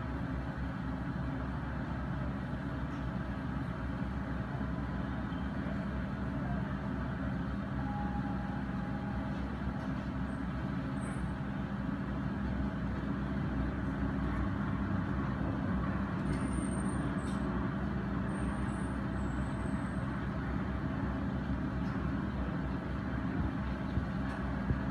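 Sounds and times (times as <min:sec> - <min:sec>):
excavator diesel engine droning: 0:00.0 - 0:24.9.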